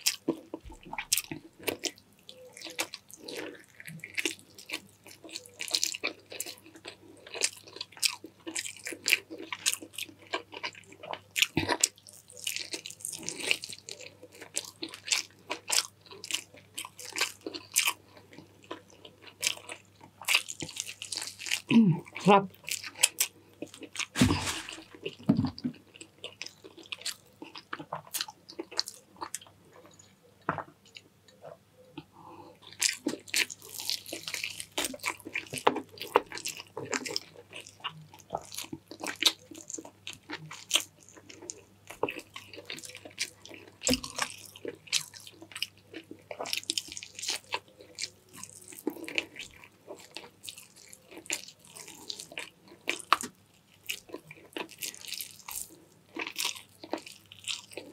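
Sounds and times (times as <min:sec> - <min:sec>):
person chewing food: 0:00.0 - 0:57.9.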